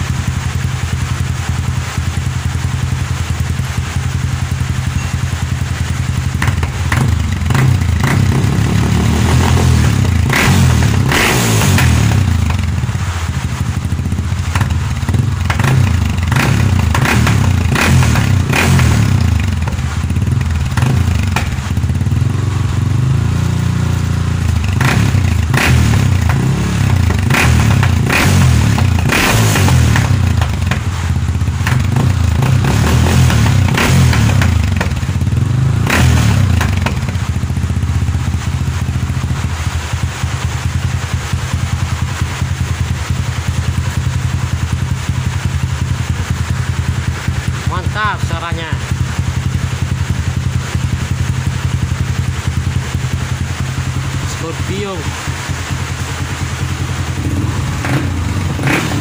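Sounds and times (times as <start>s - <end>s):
exhaust pops and crackles: 0.0s - 22.9s, 23.5s - 59.0s
motorcycle engine revving: 0.0s - 59.0s.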